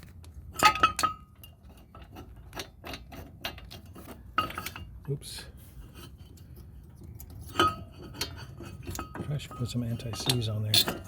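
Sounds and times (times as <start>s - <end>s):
metal tools clinking and tapping: 0.6s - 5.2s, 5.9s - 11.0s.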